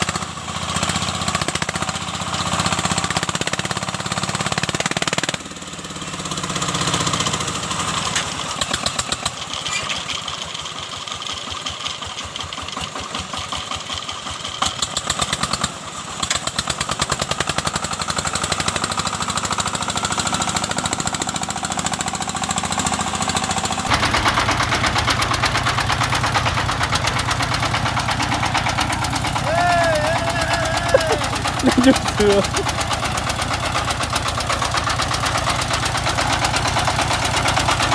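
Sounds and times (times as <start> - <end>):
walking tractor diesel engine: 0.0 - 37.9.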